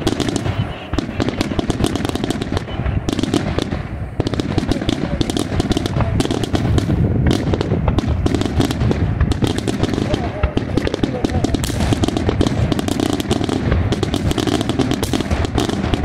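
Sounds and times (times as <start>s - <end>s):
continuous low rumble: 0.0s - 16.0s
fireworks cracks and bangs: 0.0s - 16.0s.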